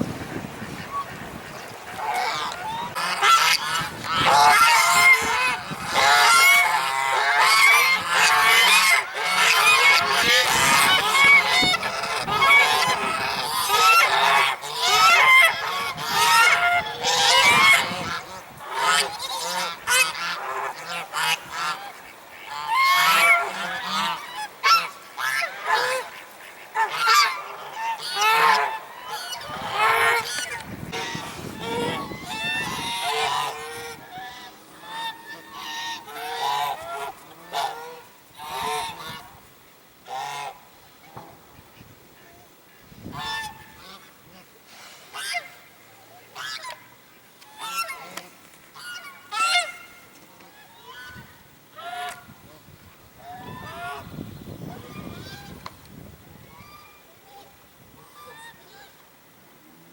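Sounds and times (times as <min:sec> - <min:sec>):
geese honking: 0:00.4 - 0:41.2, 0:42.6 - 0:52.6, 0:53.2 - 0:55.8, 0:56.5 - 0:59.0.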